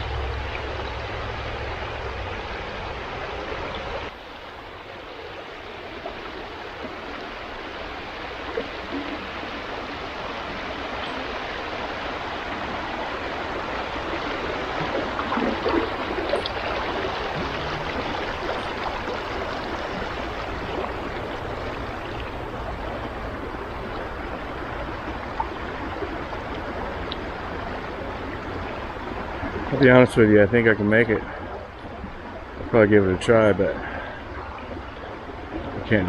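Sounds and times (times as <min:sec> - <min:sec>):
creek water flowing: 0:00.0 - 0:36.0.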